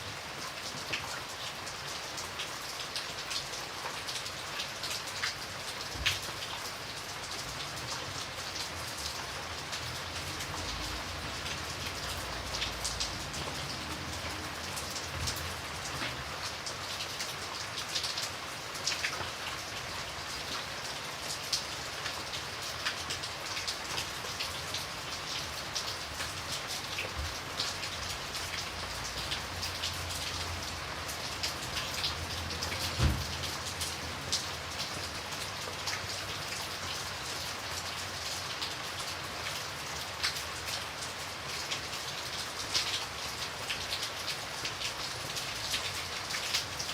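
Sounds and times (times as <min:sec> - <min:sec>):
rain on a hard surface: 0:00.0 - 0:46.9.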